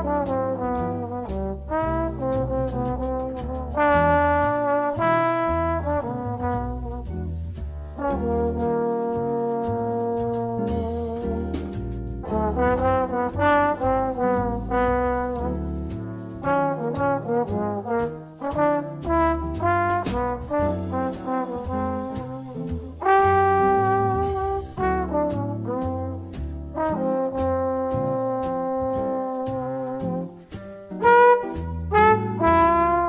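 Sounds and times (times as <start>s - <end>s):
instrumental music: 0.0s - 33.0s.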